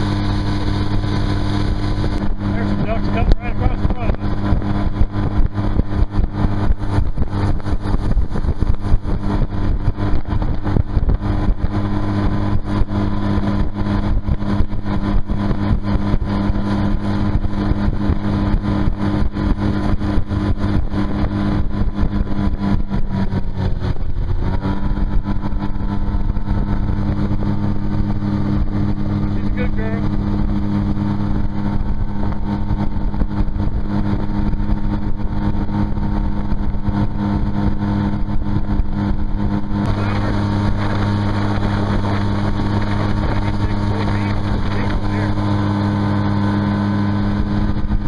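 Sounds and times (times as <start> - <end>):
boat rushing across water: 0.0 - 48.0
outboard motor running: 0.0 - 48.0.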